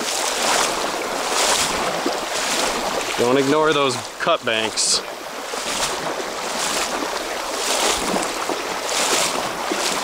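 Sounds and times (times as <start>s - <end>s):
legs wading through water: 0.0s - 10.0s
water rushing and splashing: 0.0s - 10.0s.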